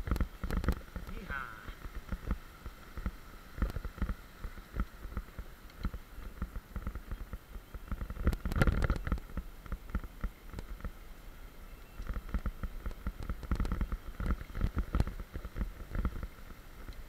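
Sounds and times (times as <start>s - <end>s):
mountain bike rattling downhill: 0.0s - 17.0s.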